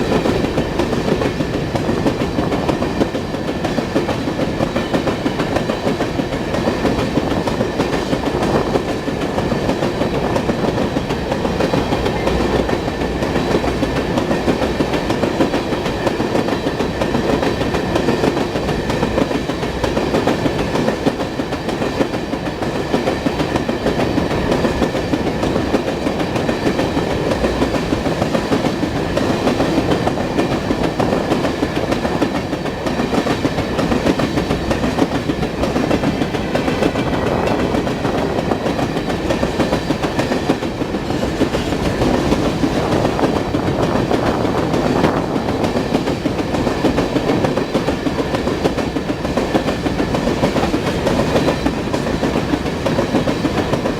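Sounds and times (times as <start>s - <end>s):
train wheels on rails: 0.0s - 53.9s.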